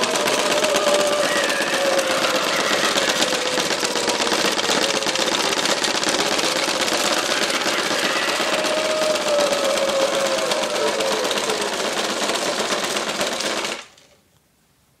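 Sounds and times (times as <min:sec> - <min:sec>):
prop cage rattling: 0:00.0 - 0:14.0.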